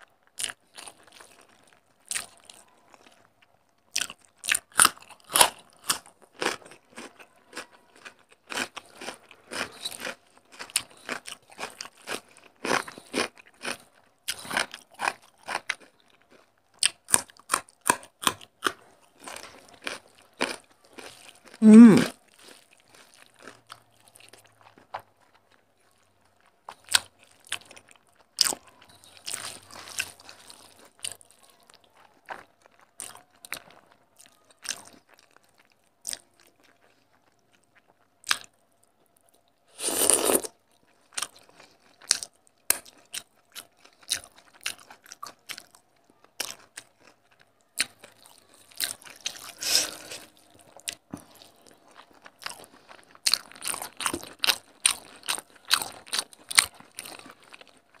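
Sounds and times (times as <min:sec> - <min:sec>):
wet chewing and crunching: 0:00.0 - 0:58.0.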